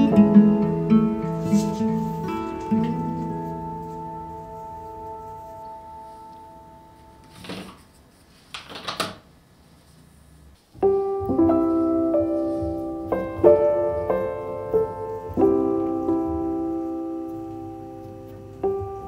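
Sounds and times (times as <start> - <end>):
slow solo piano music: 0.0 - 7.5, 10.8 - 19.0.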